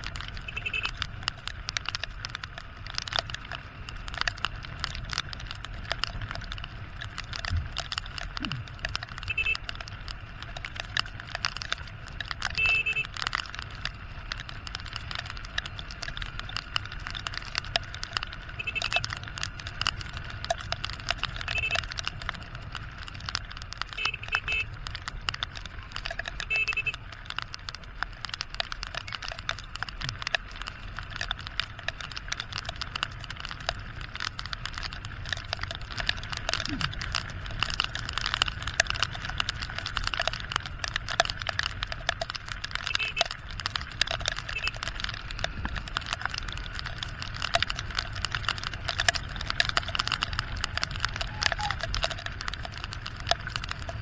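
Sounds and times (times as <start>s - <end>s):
motorcycle engine running: 0.0s - 54.0s
rain drops hitting camera: 0.0s - 54.0s.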